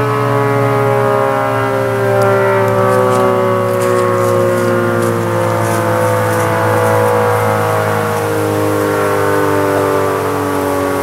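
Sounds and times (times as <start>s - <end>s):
dual-tone tornado siren: 0.0s - 11.0s.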